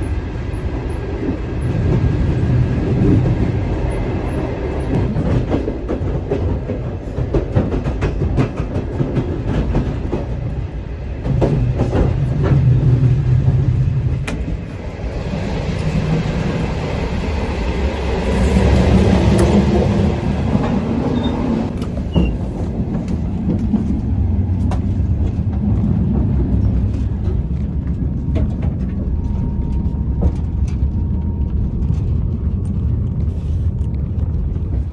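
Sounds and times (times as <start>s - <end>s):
train rumbling on rails: 0.0s - 34.9s.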